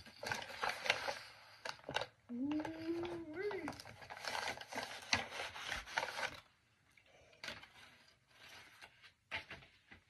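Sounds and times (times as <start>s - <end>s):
paper crinkling and rustling: 0.0s - 6.6s, 7.3s - 10.0s.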